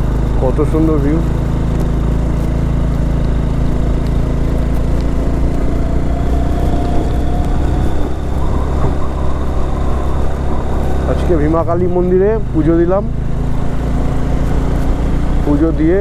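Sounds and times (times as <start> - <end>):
faint rising whine: 0.0 - 16.0
motorcycle engine running: 0.0 - 16.0.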